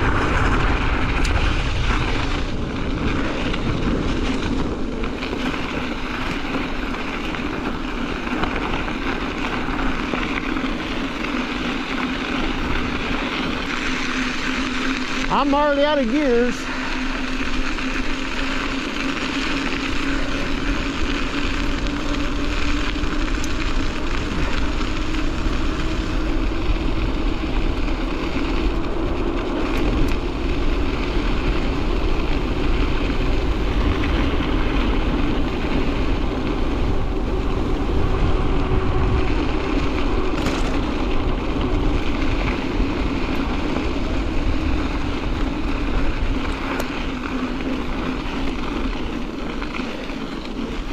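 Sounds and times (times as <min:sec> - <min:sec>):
bike tyres humming: 0:00.0 - 0:50.9
wind buffeting microphone: 0:00.0 - 0:50.9.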